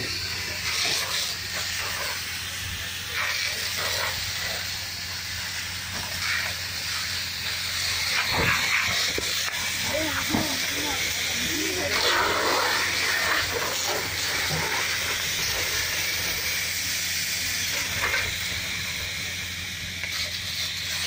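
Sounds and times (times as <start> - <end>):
water jet hissing on fire: 0.0 - 21.0.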